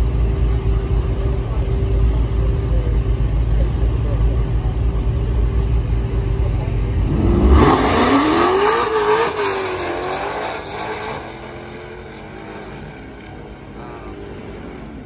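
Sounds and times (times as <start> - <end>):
drag car engines accelerating: 0.0 - 15.0.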